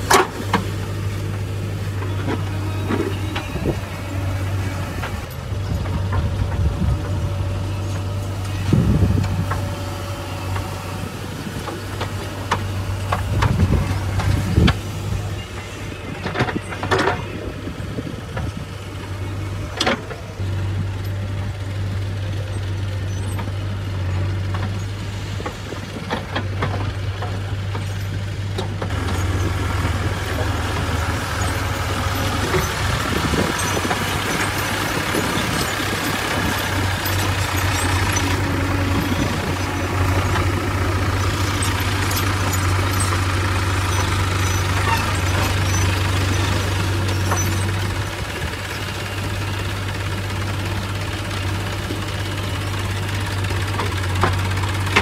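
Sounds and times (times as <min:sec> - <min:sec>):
backhoe loader diesel engine: 0:00.0 - 0:55.0
soil loading into trailer: 0:00.0 - 0:55.0
tractor diesel engine running: 0:00.0 - 0:55.0.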